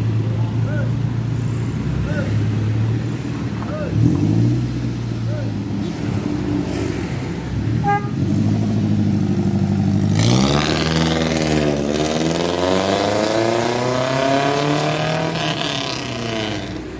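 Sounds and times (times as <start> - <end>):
car engine idling and revving: 0.0 - 16.9.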